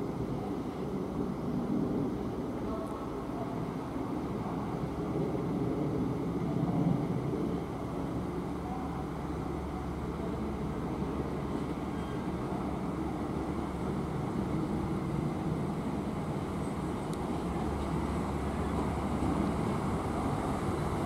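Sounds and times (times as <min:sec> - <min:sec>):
diesel locomotive engine rumbling: 0:00.0 - 0:21.0.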